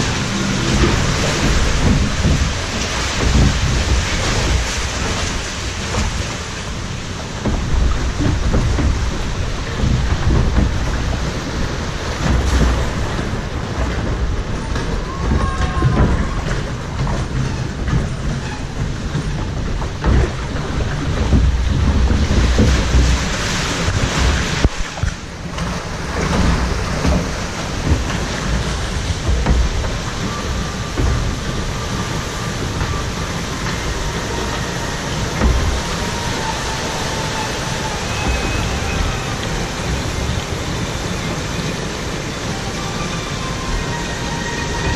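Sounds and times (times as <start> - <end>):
heavy low rumble: 0.0 - 44.9
rushing and splashing water: 0.0 - 44.9.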